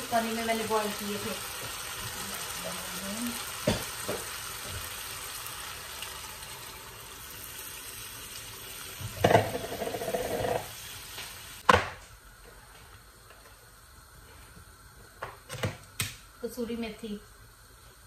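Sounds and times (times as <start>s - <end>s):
food sizzling in a frying pan: 0.0s - 11.8s, 12.4s - 18.0s.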